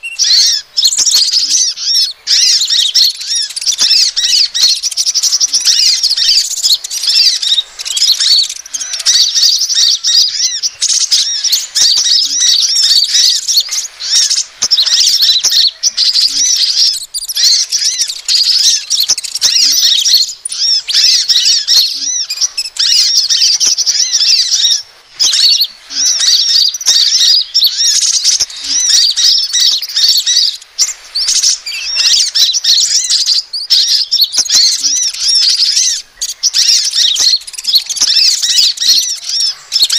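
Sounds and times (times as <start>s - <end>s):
high-pitched bird chirps and twitters: 0.0s - 39.9s.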